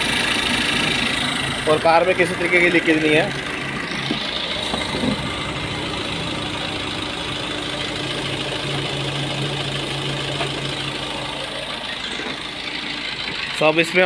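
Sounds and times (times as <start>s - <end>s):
diesel engine idling: 0.0s - 14.0s
radiator cooling fan running: 0.0s - 14.0s.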